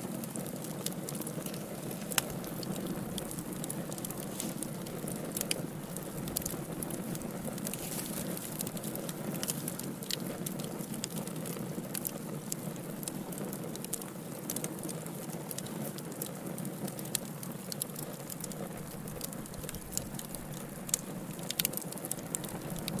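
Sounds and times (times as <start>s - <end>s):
fire rumbling: 0.0s - 23.0s
wood fire crackling and popping: 0.0s - 23.0s.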